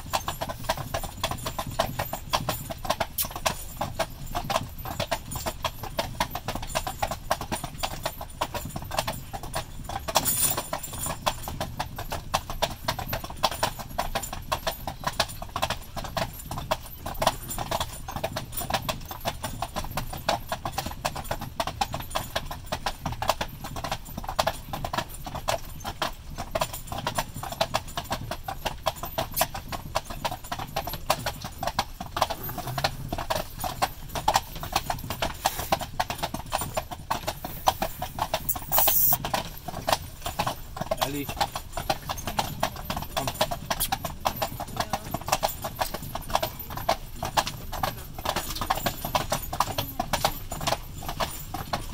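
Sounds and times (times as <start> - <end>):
horse hooves clip-clopping on pavement: 0.0 - 51.9.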